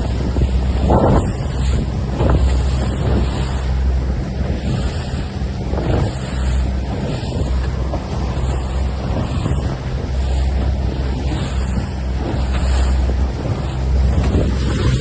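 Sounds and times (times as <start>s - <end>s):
water splashing against hull: 0.0s - 15.0s
wind buffeting microphone: 0.0s - 15.0s.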